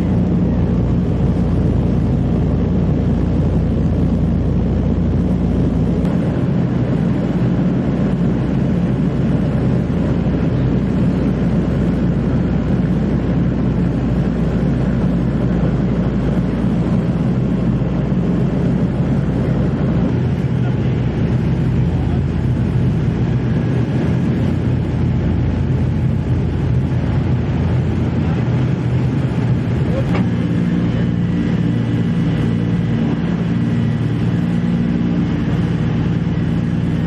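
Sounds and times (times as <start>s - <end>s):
aircraft engines droning: 0.0s - 37.0s.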